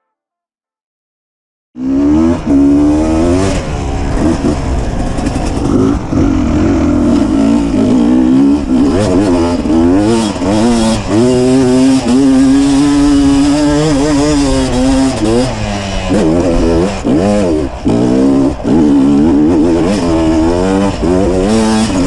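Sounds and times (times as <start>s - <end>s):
dirt bike engine revving: 1.8s - 22.0s.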